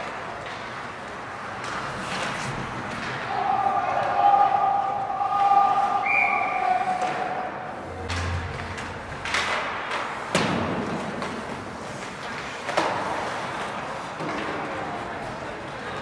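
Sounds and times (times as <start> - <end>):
hockey stick impacts: 0.0 - 16.0.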